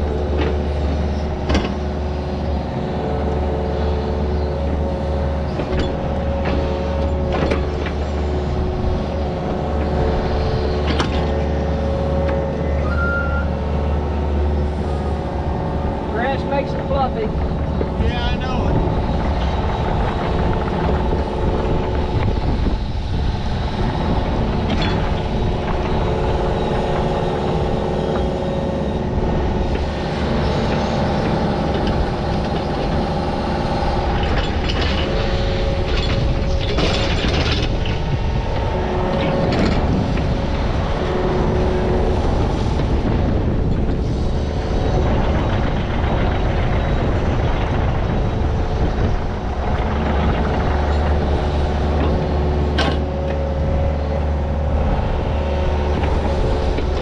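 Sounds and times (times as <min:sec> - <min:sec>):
digging machine engine rumble: 0:00.0 - 0:57.0
hydraulic whine: 0:00.0 - 0:57.0.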